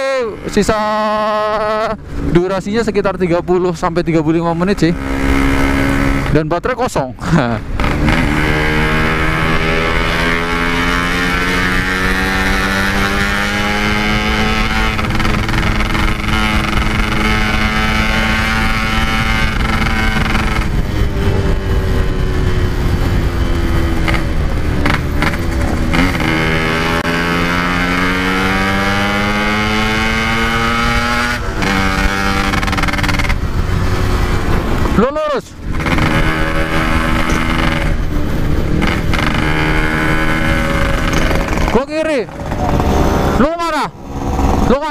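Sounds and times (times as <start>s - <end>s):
motorcycle engine accelerating: 0.0s - 6.7s, 7.3s - 44.9s.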